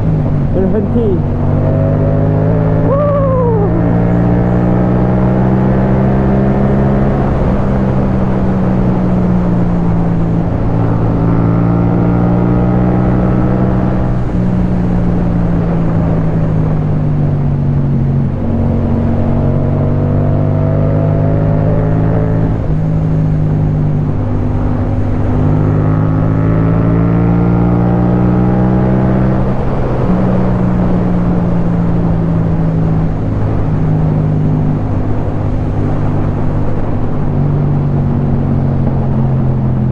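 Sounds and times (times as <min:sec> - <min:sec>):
motorcycle engine revving through gears: 0:00.0 - 0:03.0, 0:03.6 - 0:39.9
wind noise: 0:00.0 - 0:39.9.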